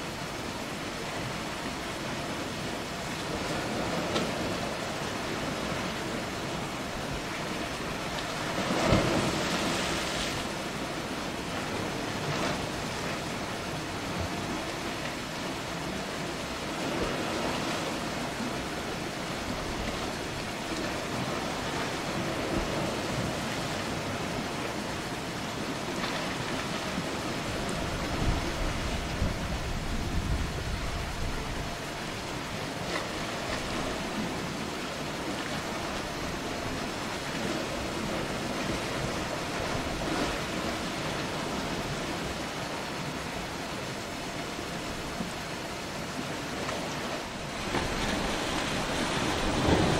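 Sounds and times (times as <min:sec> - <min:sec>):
surf on a rocky shore: 0:00.0 - 0:49.9.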